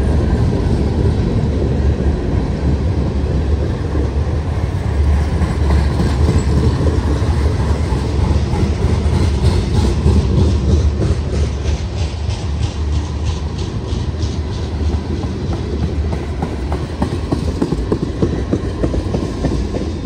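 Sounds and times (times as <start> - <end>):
freight train rumbling past: 0.0 - 20.0
wheels clicking over rail joints: 3.5 - 20.0.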